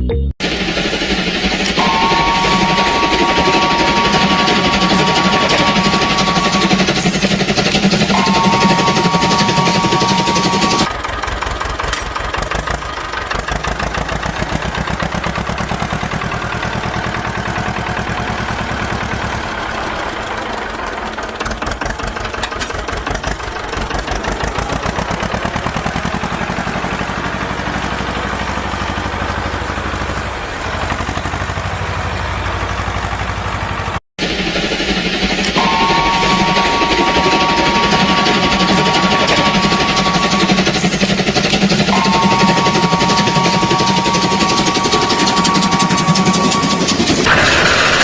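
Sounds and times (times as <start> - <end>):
engine chugging: 0.4 - 48.0.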